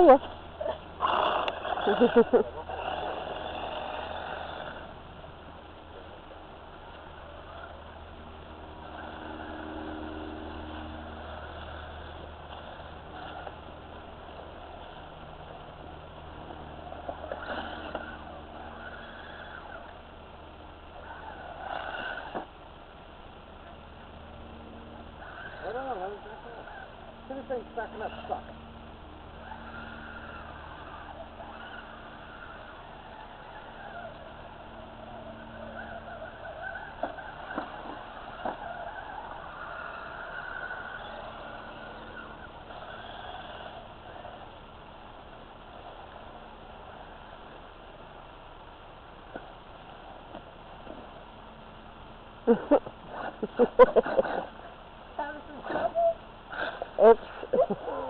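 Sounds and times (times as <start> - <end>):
small electric motors whirring: 0.0 - 48.3
bright motor whine: 0.0 - 58.0.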